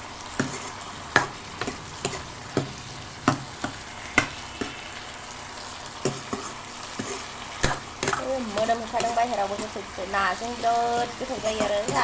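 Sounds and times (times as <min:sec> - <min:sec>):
food sizzling in a pan: 0:00.0 - 0:12.0
spatula scraping a pan: 0:00.2 - 0:12.0.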